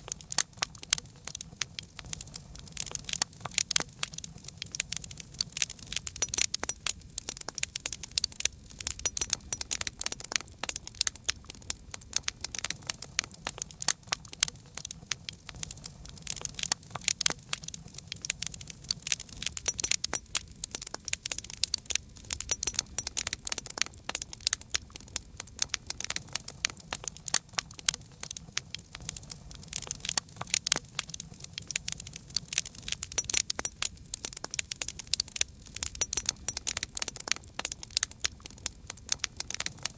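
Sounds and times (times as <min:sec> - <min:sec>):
campfire crackling: 0:00.0 - 0:39.9
low rumble of flame: 0:00.0 - 0:39.9.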